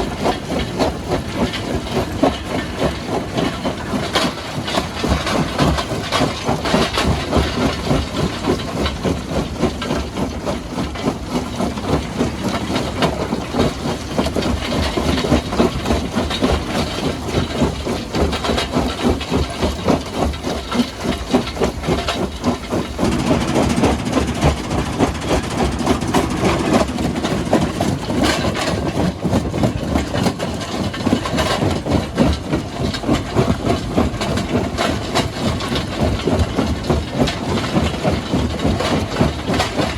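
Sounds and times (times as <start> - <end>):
stone-crushing machinery clatter: 0.0 - 39.9.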